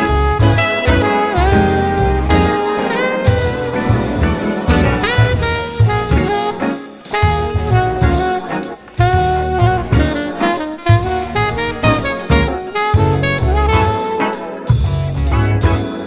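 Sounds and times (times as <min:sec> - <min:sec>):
saxophone-like melody: 0:00.0 - 0:16.0
steady drum beat: 0:00.0 - 0:16.0.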